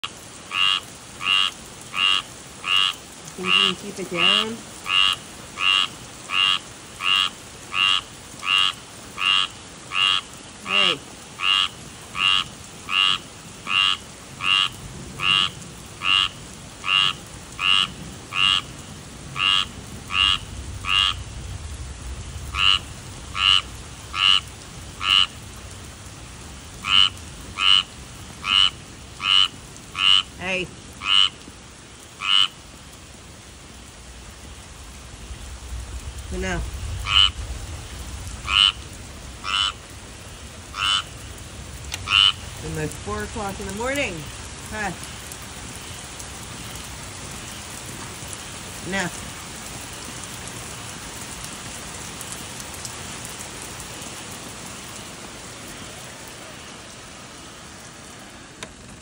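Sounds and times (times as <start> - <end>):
tree frog calling: 0.0 - 49.3.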